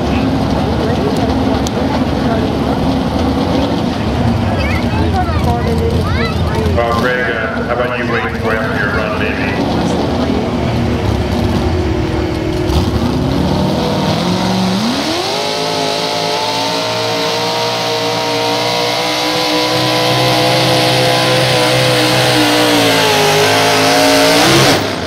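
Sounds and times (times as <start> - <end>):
tractor engine running hard: 0.0 - 25.0.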